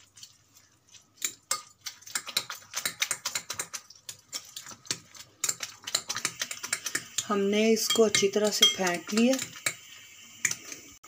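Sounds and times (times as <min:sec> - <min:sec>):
fork beating eggs in bowl: 0:00.0 - 0:10.9.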